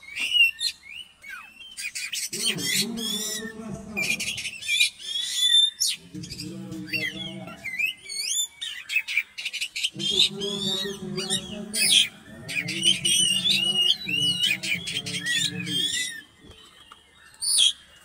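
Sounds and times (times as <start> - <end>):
songbird whistling and chattering: 0.0 - 18.0.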